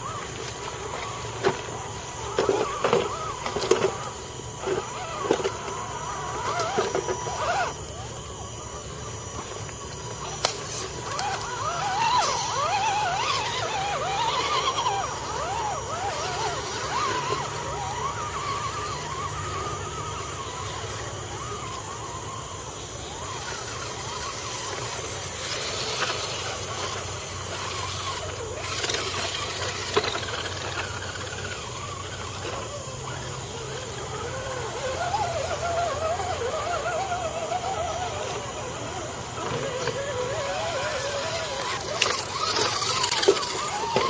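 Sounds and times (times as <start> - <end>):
rc truck electric motors whining: 0.0 - 44.0.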